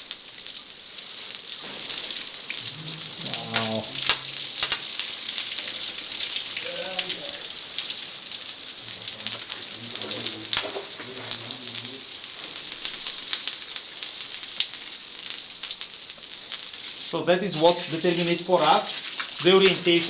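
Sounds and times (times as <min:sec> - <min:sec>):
crackling hiss: 0:00.0 - 0:20.0.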